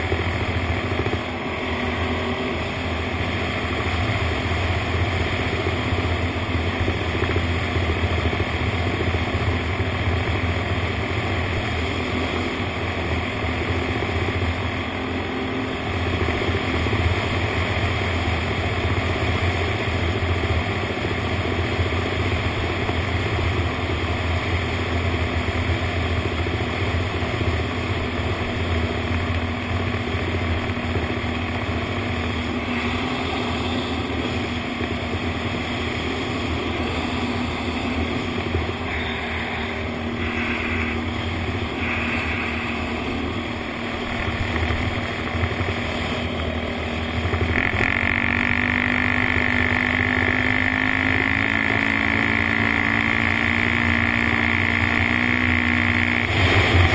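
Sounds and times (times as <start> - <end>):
quad bike engine running: 0.0 - 56.9
wind and tyres on gravel: 0.0 - 56.9.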